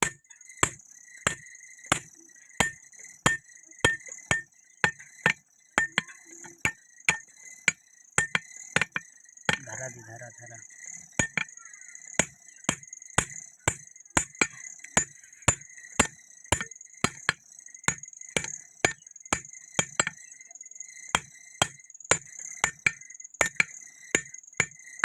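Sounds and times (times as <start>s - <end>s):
hammer striking hot steel on anvil: 0.0s - 9.8s, 11.2s - 11.5s, 12.2s - 20.2s, 21.2s - 24.8s.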